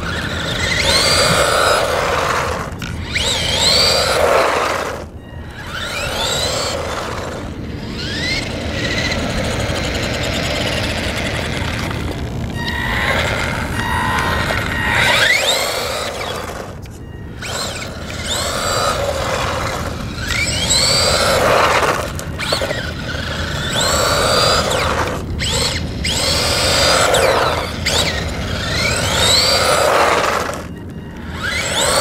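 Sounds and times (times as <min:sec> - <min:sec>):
toy truck electric motor whining: 0:00.0 - 0:32.0.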